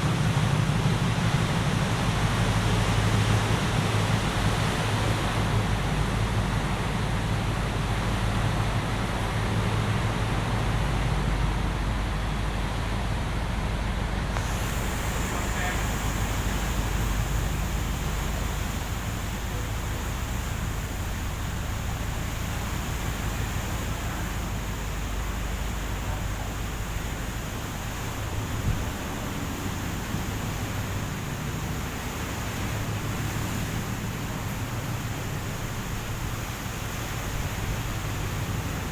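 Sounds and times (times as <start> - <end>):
sea noise: 0.0 - 38.9
ship engines rumbling: 0.0 - 38.9
wind: 0.0 - 38.9.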